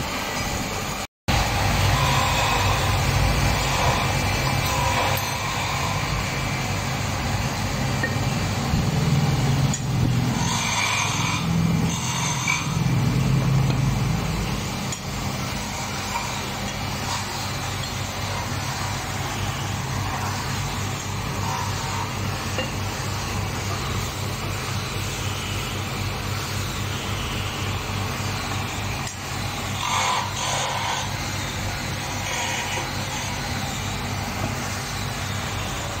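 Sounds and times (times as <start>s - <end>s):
machine noise: 0.0s - 36.0s
low motor hum: 1.3s - 36.0s.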